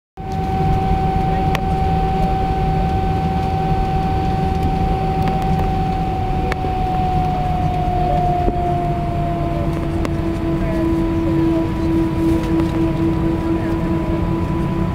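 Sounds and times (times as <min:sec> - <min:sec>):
jet engines whining in cabin: 0:00.2 - 0:14.9.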